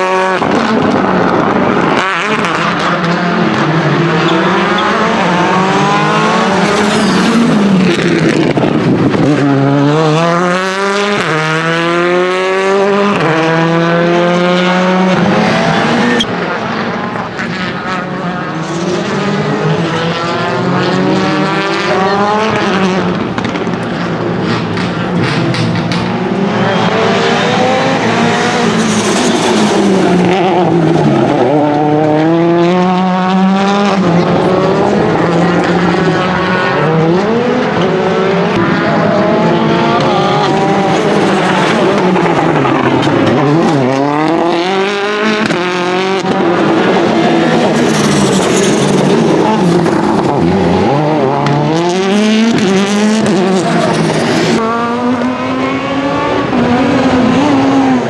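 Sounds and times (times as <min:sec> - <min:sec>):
car engine revving hard: 0:00.0 - 0:24.7, 0:26.1 - 0:58.0.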